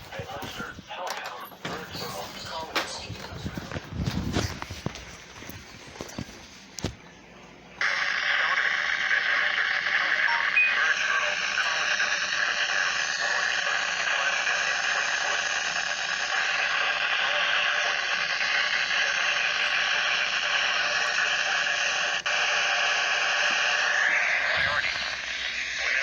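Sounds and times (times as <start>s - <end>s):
radio static hiss: 0.0s - 7.0s, 7.7s - 26.0s.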